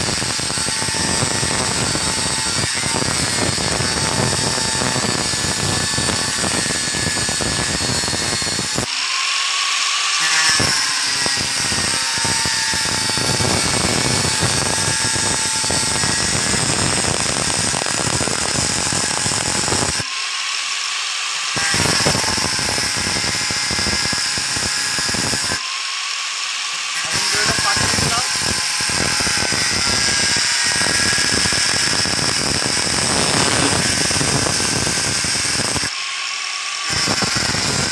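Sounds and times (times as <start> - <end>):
motor high whine: 0.0 - 20.7, 21.5 - 37.9
angle grinder grinding metal: 0.0 - 37.9.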